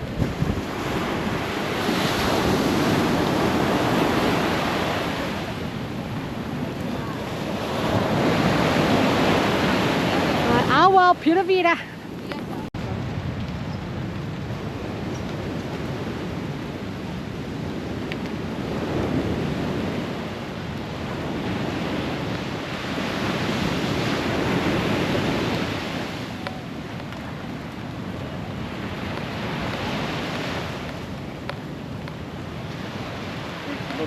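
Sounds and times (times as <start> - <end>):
ocean surf breaking: 0.0 - 34.0
wind buffeting microphone: 0.0 - 34.0.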